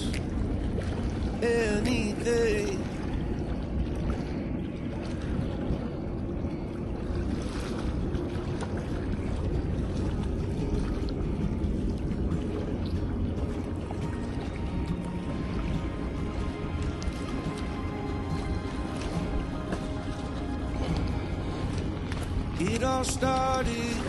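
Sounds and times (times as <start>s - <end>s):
water at seawall: 0.0s - 24.0s
wind: 0.0s - 24.0s.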